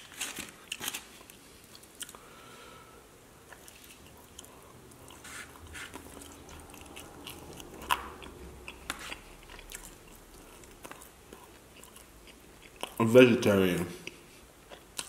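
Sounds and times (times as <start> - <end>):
person chewing pizza crust: 0.0 - 2.3, 3.4 - 13.1, 14.0 - 15.0.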